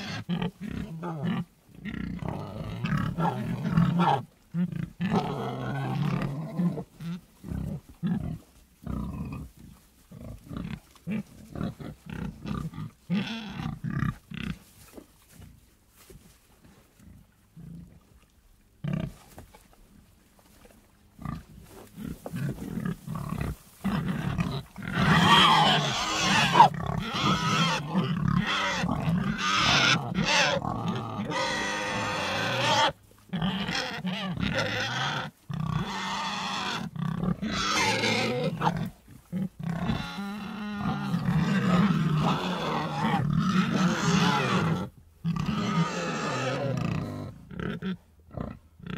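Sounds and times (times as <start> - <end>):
pigs grunting and squealing: 0.0 - 14.6, 21.2 - 48.9.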